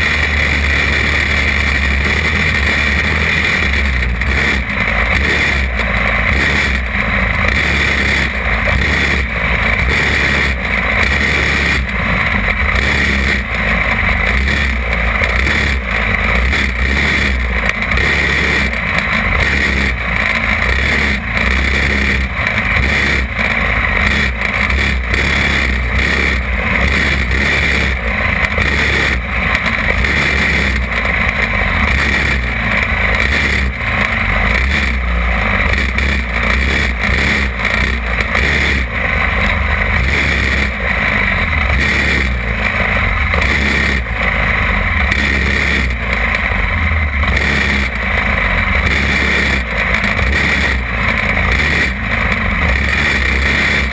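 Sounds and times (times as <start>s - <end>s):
go-kart engine running hard: 0.0s - 53.9s.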